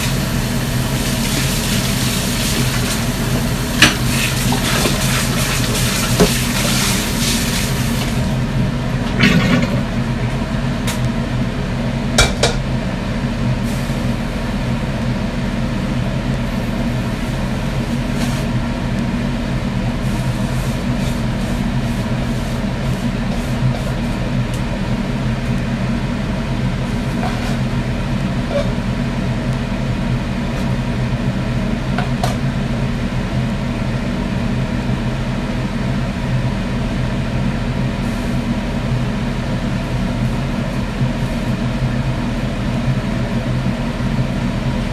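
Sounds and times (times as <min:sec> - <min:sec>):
range hood fan humming: 0:00.0 - 0:44.9.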